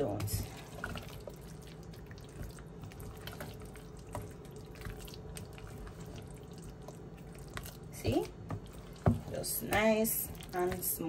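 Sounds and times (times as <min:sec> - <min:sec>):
soft wet mixing sounds: 0:00.0 - 0:11.0.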